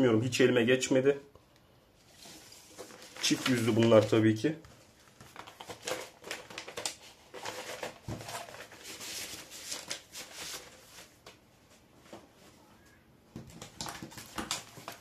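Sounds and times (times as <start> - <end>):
paper and cardboard rustling: 2.0 - 12.6, 13.4 - 15.0.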